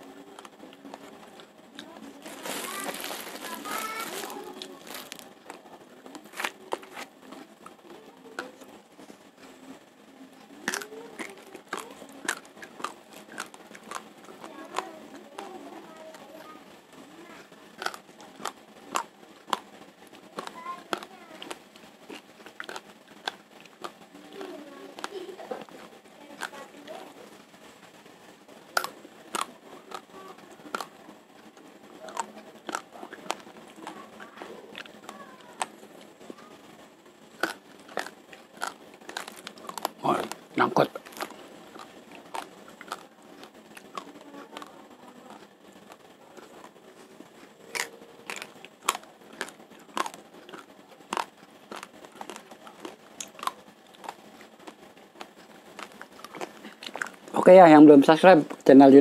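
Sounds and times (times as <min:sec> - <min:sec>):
raw rice crunching while chewed: 0:00.4 - 0:08.5, 0:10.6 - 0:16.3, 0:17.7 - 0:27.4, 0:28.7 - 0:36.2, 0:37.3 - 0:44.7, 0:45.3 - 0:57.5.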